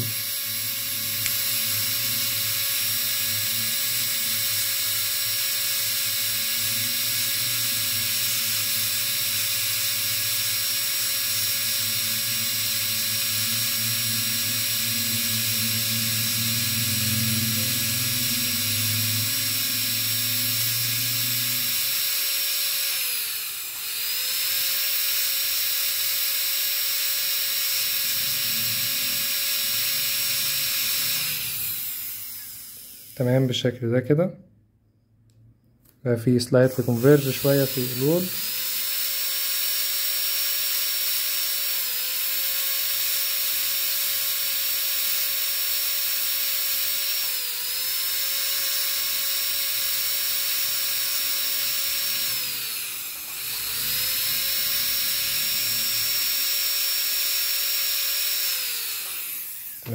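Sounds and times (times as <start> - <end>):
dental drill whining: 0.0 - 33.7, 36.3 - 59.9.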